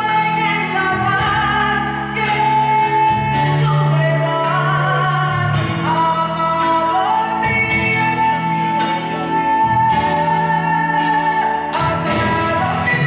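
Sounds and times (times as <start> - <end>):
instrumental accompaniment: 0.0 - 13.0
woman singing slow melody: 0.0 - 13.0.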